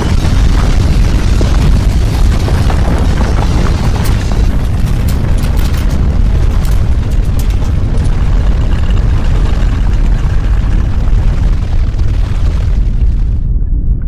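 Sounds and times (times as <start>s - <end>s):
sharp crackles: 0.0s - 13.6s
deep earthquake rumble: 0.0s - 14.0s.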